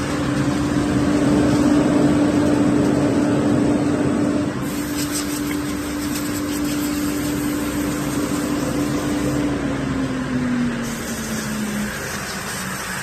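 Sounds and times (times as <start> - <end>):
broad rushing noise: 0.0 - 13.0
machine hum: 0.0 - 13.0.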